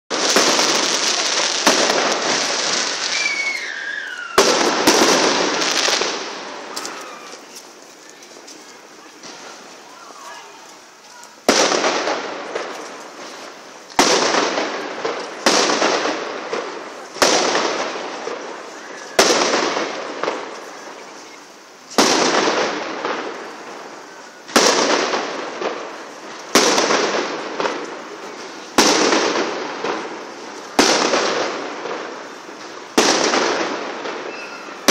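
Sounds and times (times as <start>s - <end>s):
fireworks bangs: 0.1s - 34.9s.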